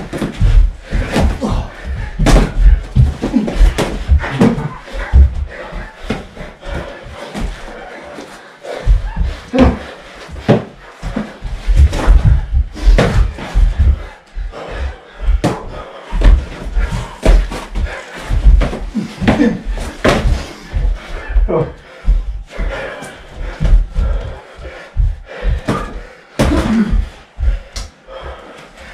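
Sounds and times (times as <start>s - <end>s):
heavy footsteps thudding: 0.0s - 8.0s, 8.7s - 28.9s.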